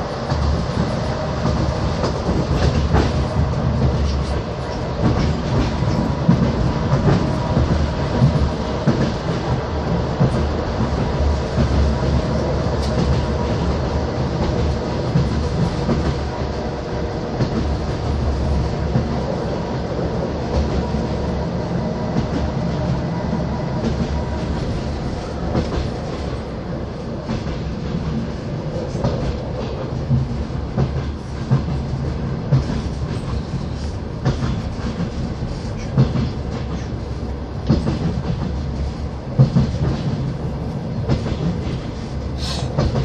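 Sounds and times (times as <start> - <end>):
train low rumble: 0.0 - 43.0.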